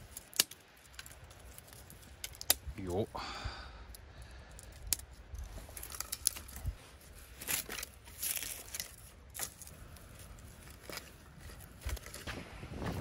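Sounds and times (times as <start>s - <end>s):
driftwood and branches rustling: 0.0s - 13.0s.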